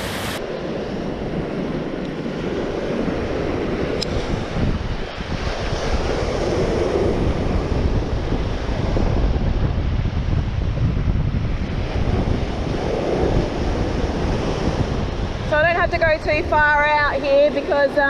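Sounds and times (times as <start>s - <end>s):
ocean surf breaking on beach: 0.0s - 18.0s
wind noise on microphone: 0.0s - 18.0s.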